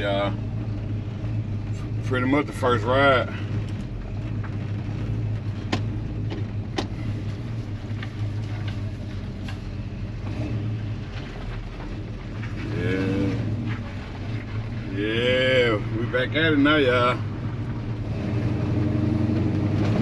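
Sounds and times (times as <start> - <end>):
truck engine running low: 0.0 - 20.0.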